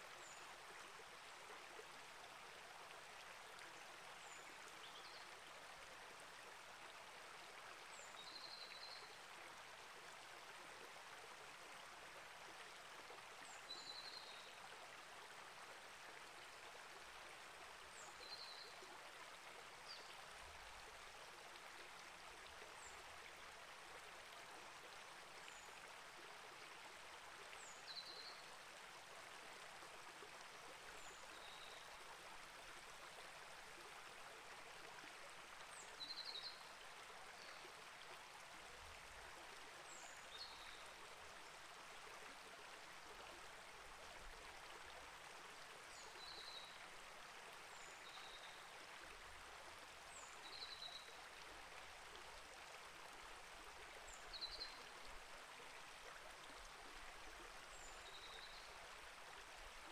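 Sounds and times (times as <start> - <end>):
creek flowing over rocks: 0.0 - 59.9.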